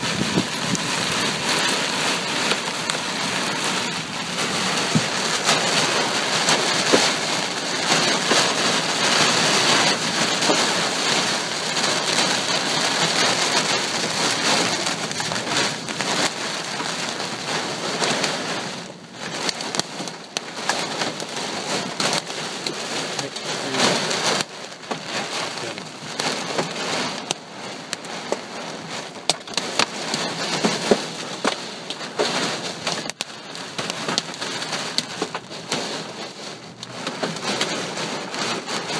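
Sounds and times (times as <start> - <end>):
heavy rain pounding on surfaces: 0.0 - 38.9.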